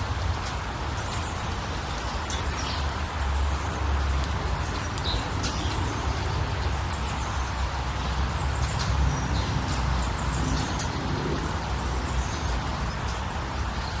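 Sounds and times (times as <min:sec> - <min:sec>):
deep rushing water or wind: 0:00.0 - 0:14.0.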